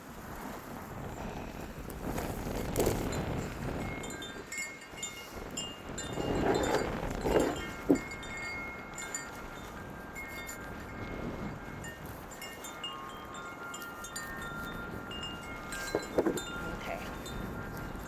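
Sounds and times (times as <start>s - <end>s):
wind buffeting microphone: 0.0s - 18.0s
wind chimes tinkling: 3.0s - 18.0s.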